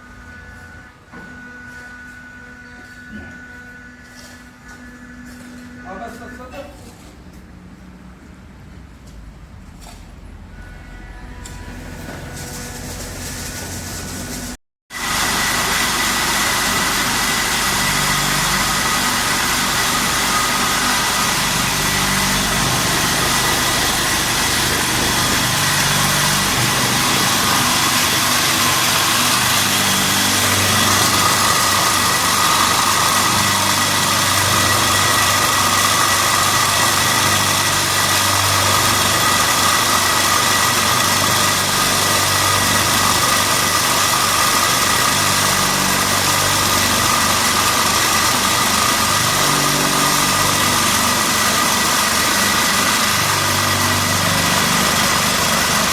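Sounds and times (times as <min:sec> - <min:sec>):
machinery hum with high whine: 0:00.0 - 0:55.9.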